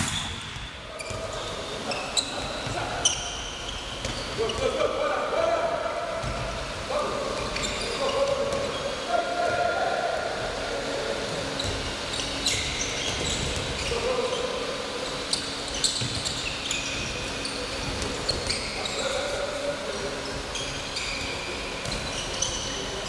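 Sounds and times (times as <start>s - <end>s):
sneakers squeaking on wooden floor: 0.0s - 4.9s, 6.1s - 9.6s, 11.5s - 23.0s.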